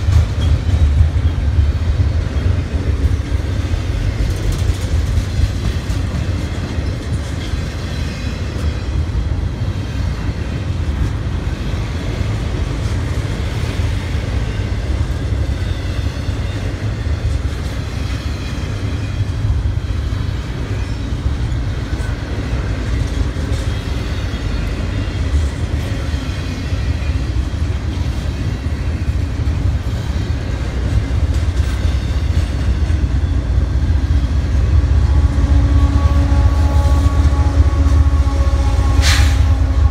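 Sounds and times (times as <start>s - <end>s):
freight train wheels rumbling on rails: 0.0s - 39.9s.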